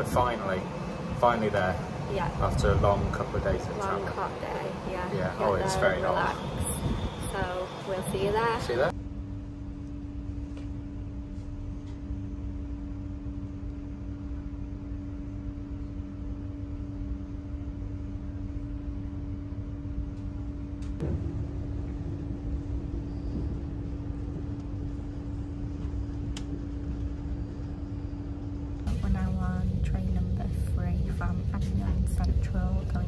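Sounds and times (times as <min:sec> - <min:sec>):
constant hum: 0:00.0 - 0:33.0
train running rumble: 0:00.0 - 0:33.0.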